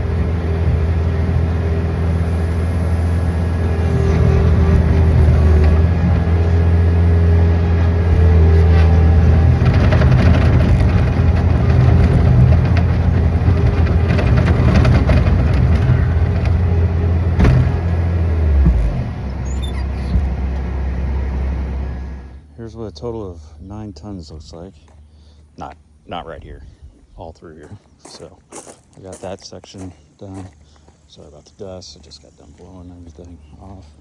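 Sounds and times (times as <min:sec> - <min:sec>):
engine running with low hum: 0:00.0 - 0:28.0.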